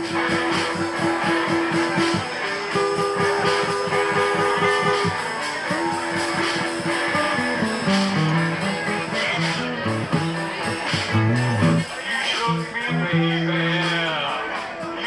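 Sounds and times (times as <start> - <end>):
fast steady band rhythm: 0.0 - 14.8
guitar holding long notes: 0.0 - 15.0.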